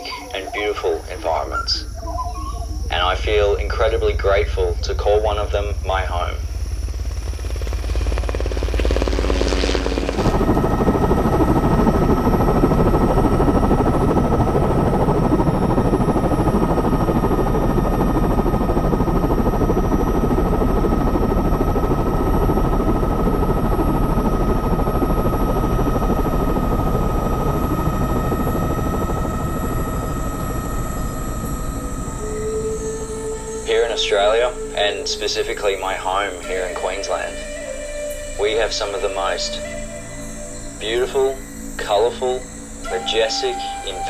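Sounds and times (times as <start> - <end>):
constant whine: 0.0 - 44.0
light aircraft engine and wind: 0.0 - 44.0.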